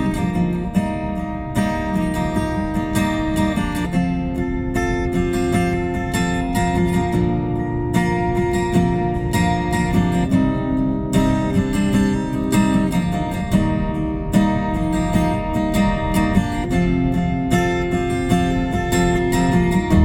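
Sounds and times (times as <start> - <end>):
strummed acoustic guitar music: 0.0 - 20.0.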